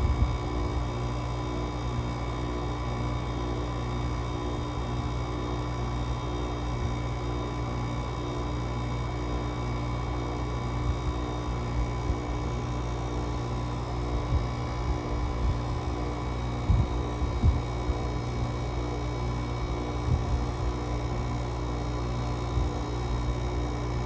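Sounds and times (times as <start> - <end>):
window air conditioner humming: 0.0 - 24.0.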